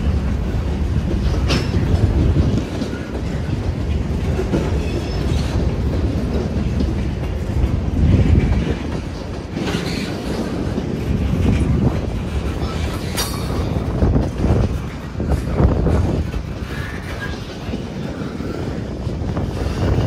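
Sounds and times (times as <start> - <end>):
freight train rumble: 0.0 - 20.0
train wheels clattering over rail joints: 0.0 - 20.0.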